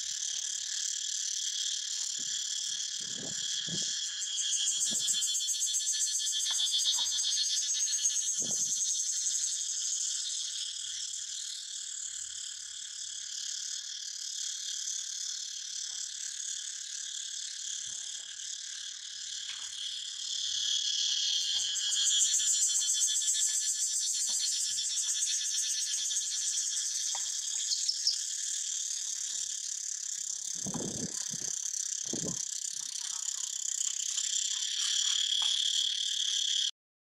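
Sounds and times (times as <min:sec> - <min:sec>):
insect chorus buzzing: 0:00.0 - 0:36.7.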